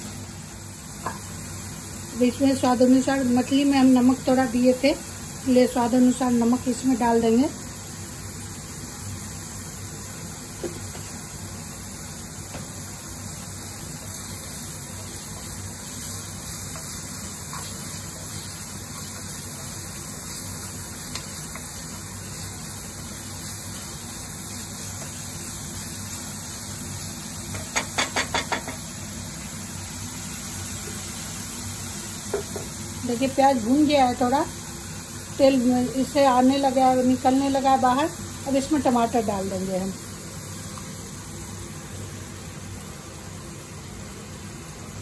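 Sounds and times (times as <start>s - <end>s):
masala paste sizzling in oil: 0.0s - 45.0s.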